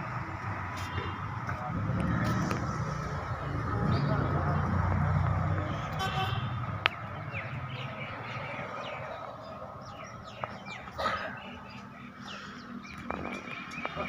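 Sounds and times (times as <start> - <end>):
small birds chirping: 2.3 - 14.0.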